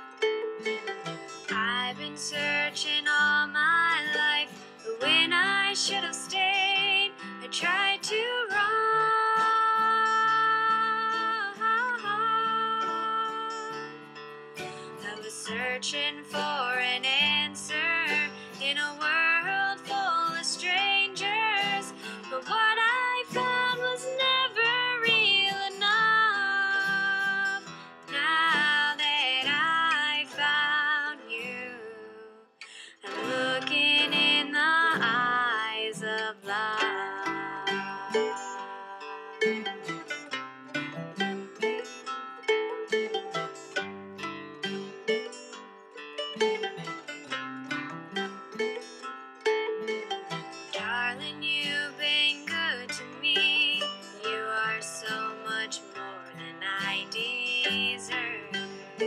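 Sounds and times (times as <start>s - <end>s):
bluegrass band music: 0.0s - 13.2s, 13.8s - 31.2s, 33.0s - 59.0s
acoustic guitar picked and strummed: 0.0s - 59.0s.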